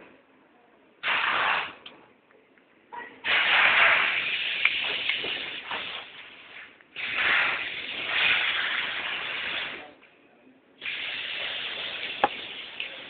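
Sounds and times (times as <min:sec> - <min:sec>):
noisy hiss: 0:00.9 - 0:02.2, 0:03.2 - 0:13.0.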